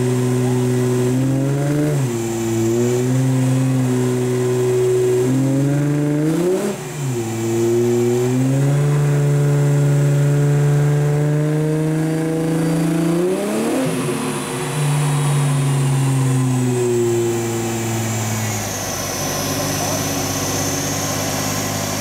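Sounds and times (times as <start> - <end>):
car engine running hard under load: 0.0 - 22.0.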